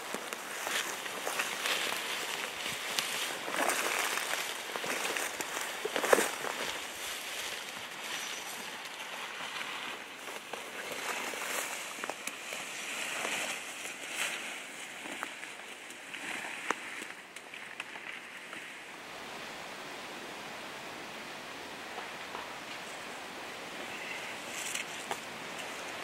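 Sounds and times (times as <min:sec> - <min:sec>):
footsteps in undergrowth: 0:00.0 - 0:18.9, 0:23.8 - 0:26.0.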